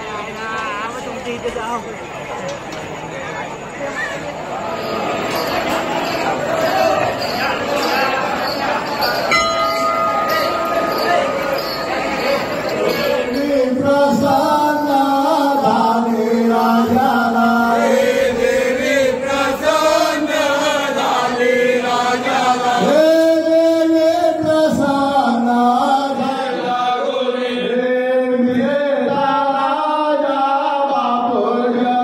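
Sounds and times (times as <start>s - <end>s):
devotional chanting song: 4.5s - 32.0s.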